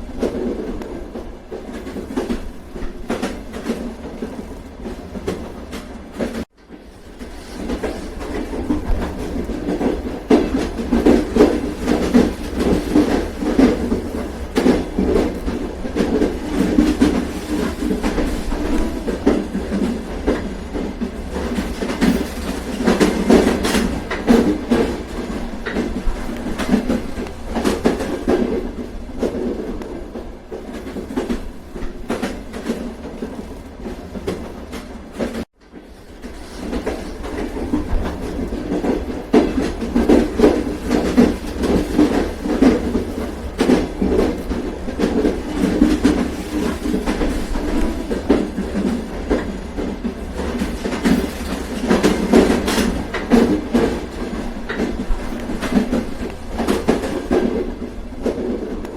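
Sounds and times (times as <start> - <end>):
train rumbling along track: 0.0 - 58.9
wheels clicking on rail joints: 0.0 - 58.9.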